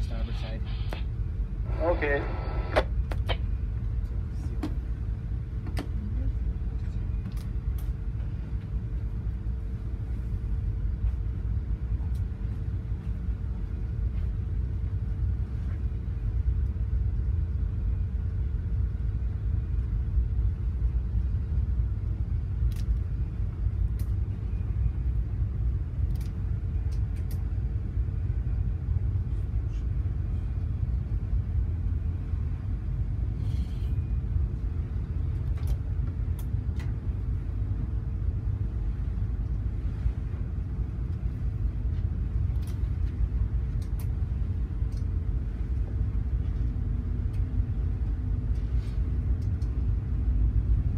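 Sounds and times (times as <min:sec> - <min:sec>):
ship engine low rumble: 0:00.0 - 0:50.9
steady hum: 0:00.0 - 0:50.9.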